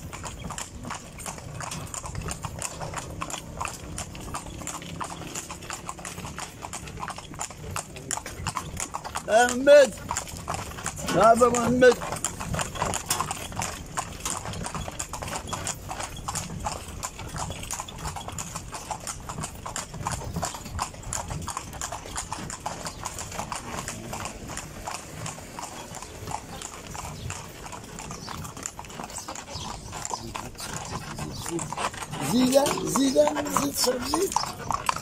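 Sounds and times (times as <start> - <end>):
horse hooves clip-clopping on asphalt: 0.0 - 35.0.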